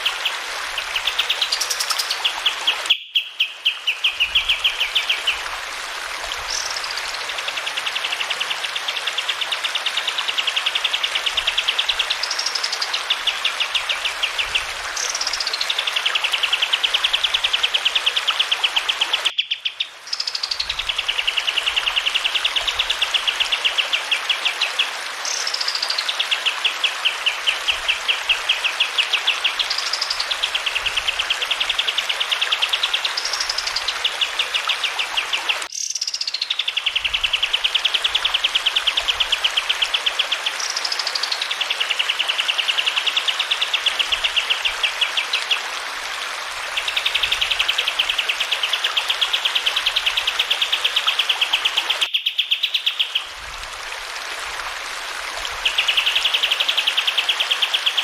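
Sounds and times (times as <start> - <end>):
running water hiss: 0.0 - 19.3, 20.0 - 58.0.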